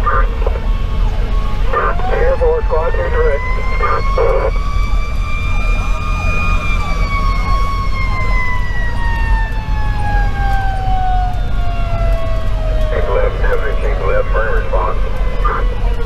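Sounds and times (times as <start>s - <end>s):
diesel truck engine drone: 0.0s - 16.0s
electronic siren sweeping: 0.1s - 16.0s.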